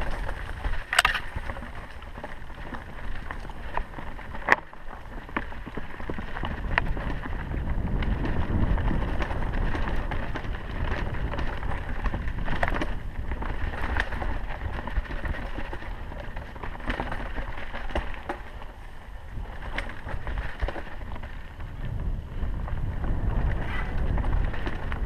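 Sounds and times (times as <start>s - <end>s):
bike rattling with sharp clicks: 0.0s - 25.0s
tyres rolling over dirt and stones: 0.0s - 25.0s
wind buffeting microphone: 0.0s - 25.0s.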